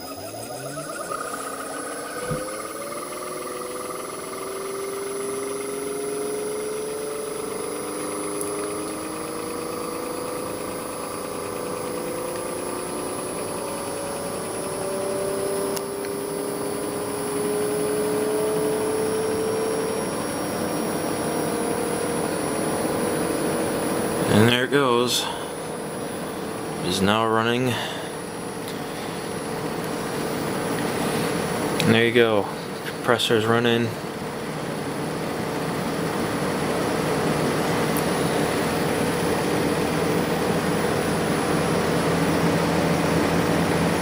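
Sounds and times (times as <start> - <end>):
air conditioner motor hum: 0.0 - 44.0
steady high whine: 0.0 - 44.0.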